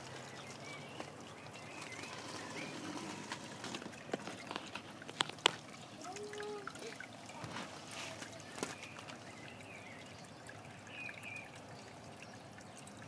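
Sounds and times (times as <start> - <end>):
hose water trickling into channel: 0.0 - 13.0.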